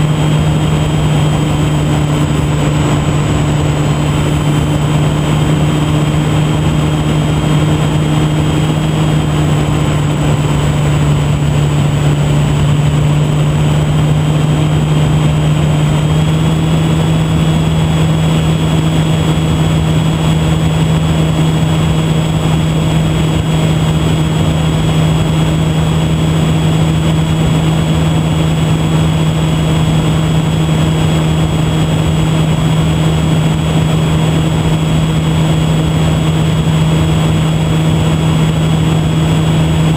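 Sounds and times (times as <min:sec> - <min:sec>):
electric motor hum and whine: 0:00.0 - 0:39.9
wind rush: 0:00.0 - 0:39.9.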